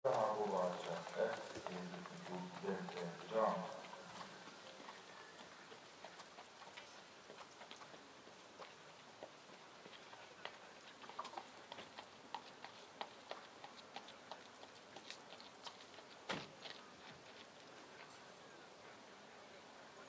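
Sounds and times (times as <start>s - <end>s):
hooves and tack clicking: 0.1s - 18.2s.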